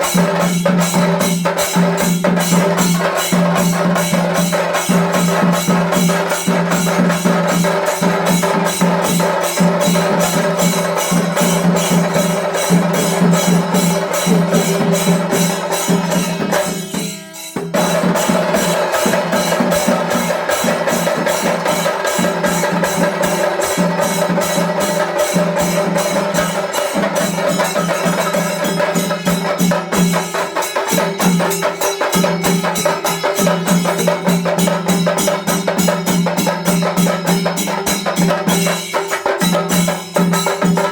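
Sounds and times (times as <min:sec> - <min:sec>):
drums beaten fast: 0:00.0 - 0:40.9.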